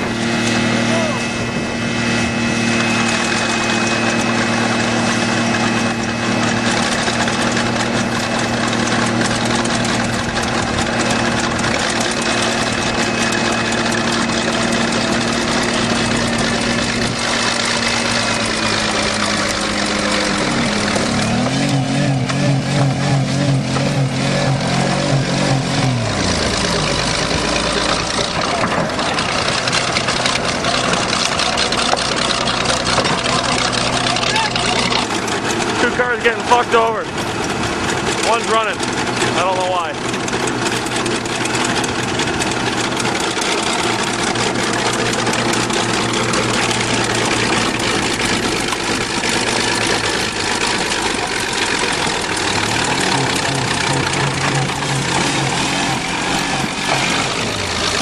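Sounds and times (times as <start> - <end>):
bulldozer engine running: 0.0 - 58.0
car engine at raised revs: 0.0 - 58.0
engine clattering and knocking: 0.0 - 58.0.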